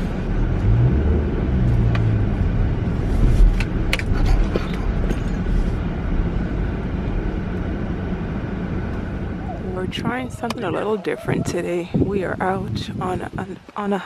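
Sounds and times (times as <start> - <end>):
car road noise rumble: 0.0 - 14.0.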